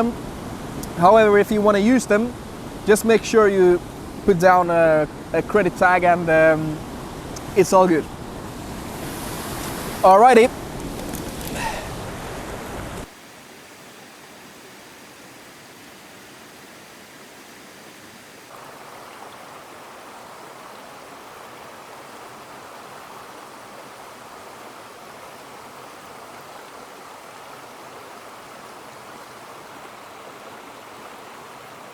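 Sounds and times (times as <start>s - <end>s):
waterfall and stream rushing: 0.0s - 31.9s.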